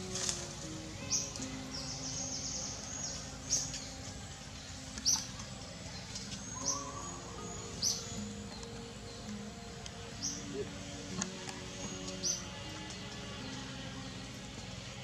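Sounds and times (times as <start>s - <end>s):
soft background music: 0.0s - 15.0s
bird chirps: 0.7s - 14.7s.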